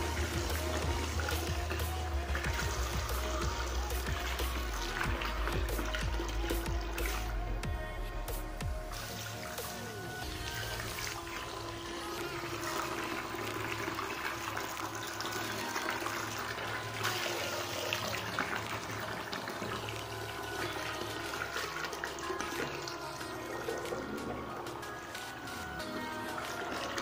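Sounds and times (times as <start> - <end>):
water splashing and gushing: 0.0 - 27.0.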